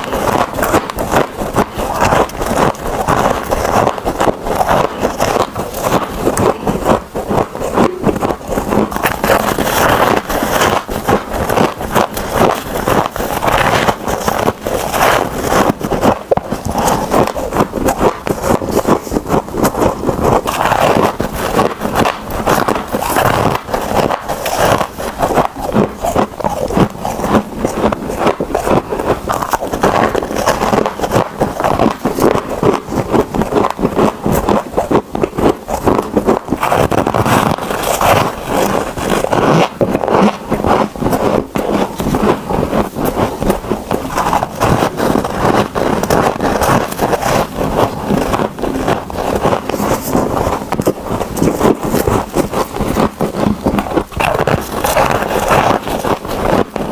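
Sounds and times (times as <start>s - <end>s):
chewing crunchy frost: 0.0s - 56.9s.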